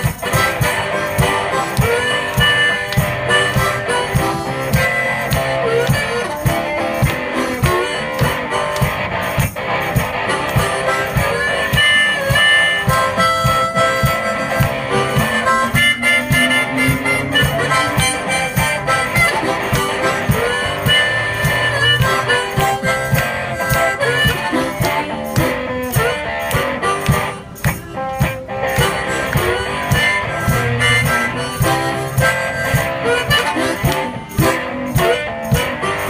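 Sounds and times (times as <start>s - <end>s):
guitar: 0.0s - 36.0s
harmonica melody: 0.0s - 36.0s
steady percussion beat: 0.0s - 36.0s.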